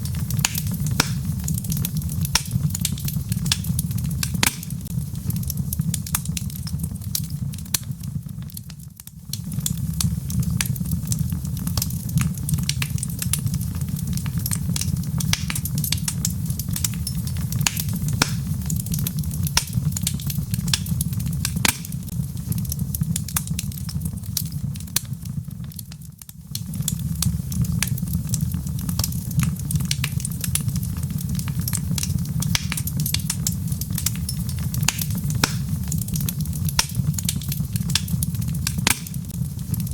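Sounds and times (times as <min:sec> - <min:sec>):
burning wood crackling: 0:00.0 - 0:39.9
low rumble of flames: 0:00.0 - 0:39.9.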